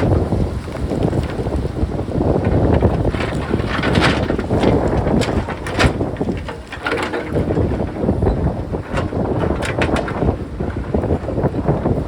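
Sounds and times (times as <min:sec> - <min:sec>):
rock clattering: 0:00.0 - 0:12.0
wind buffeting microphone: 0:00.0 - 0:12.0.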